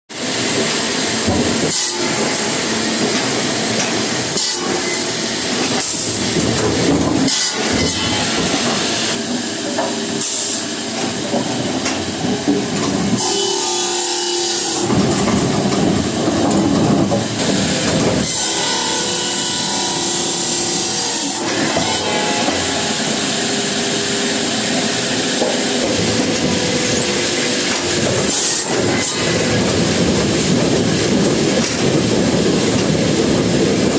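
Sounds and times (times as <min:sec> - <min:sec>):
wood-processing machinery running: 0:00.1 - 0:33.9.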